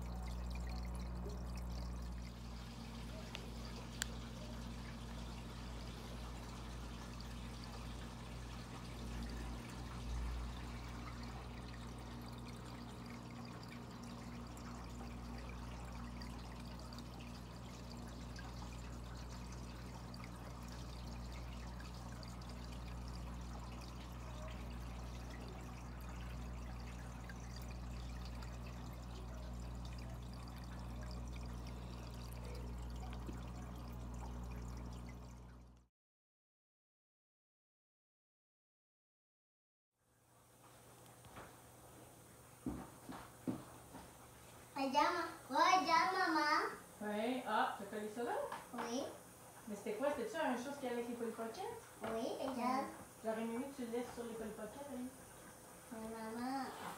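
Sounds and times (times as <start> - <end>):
aquarium water trickling: 0.0 - 35.9, 40.0 - 56.9
low electrical hum: 0.0 - 35.9, 40.1 - 56.9.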